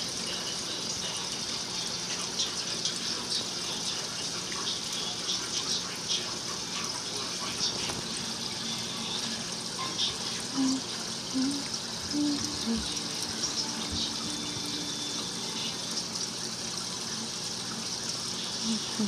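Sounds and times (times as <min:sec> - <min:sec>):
aquarium aeration bubbling: 0:00.0 - 0:19.0.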